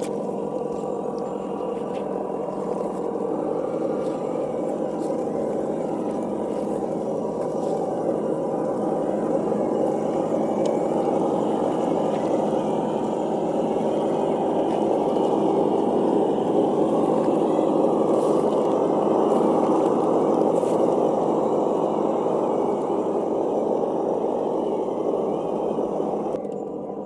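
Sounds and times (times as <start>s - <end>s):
simulated engine sound: 0.0s - 27.0s.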